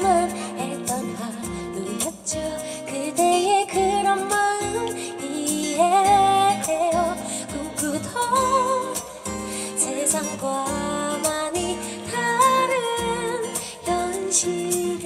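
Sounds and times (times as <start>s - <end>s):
acoustic guitar: 0.0s - 15.0s
woman singing: 0.0s - 15.0s.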